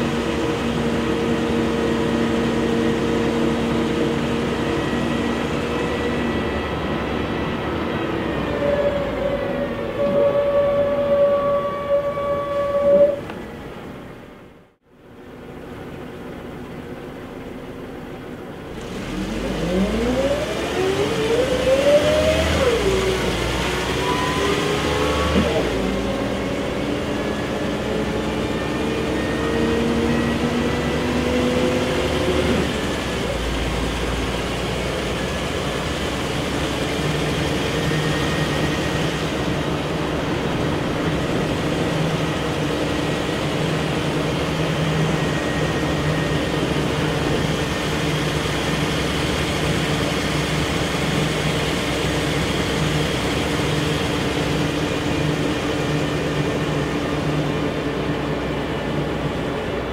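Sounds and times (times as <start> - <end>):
bus engine from inside cabin: 0.0 - 59.9
road noise: 0.0 - 59.9.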